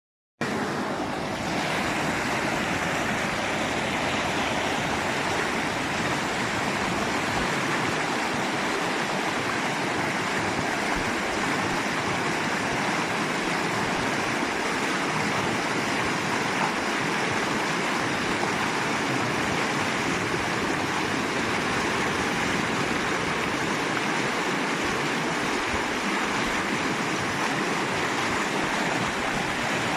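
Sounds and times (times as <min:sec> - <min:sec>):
running water rushing: 0:00.4 - 0:29.9.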